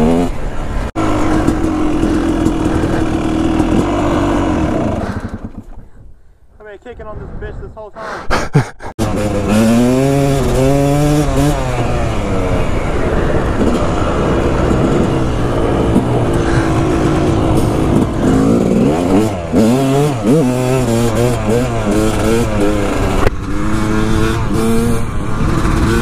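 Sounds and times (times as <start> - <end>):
dirt bike engine revving: 0.0 - 5.7, 9.0 - 26.0
wind rushing over microphone: 0.0 - 8.8, 9.4 - 26.0.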